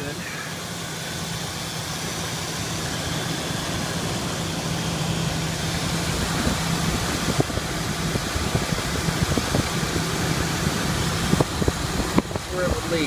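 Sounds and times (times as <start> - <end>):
air conditioning whir: 0.0 - 13.0
truck engine idling: 0.0 - 13.0.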